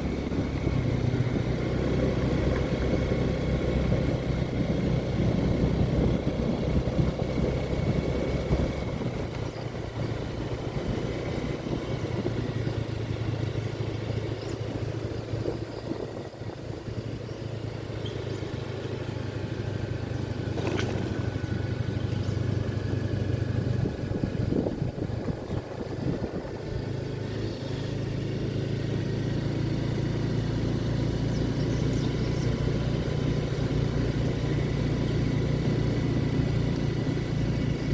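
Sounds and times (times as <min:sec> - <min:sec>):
vehicle engine droning: 0:00.0 - 0:37.9.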